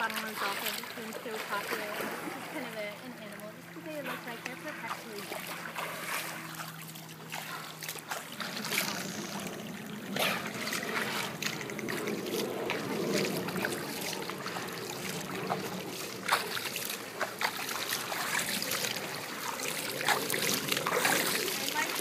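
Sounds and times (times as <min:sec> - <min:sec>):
pool water lapping: 0:00.0 - 0:22.0
short splashes: 0:00.0 - 0:22.0.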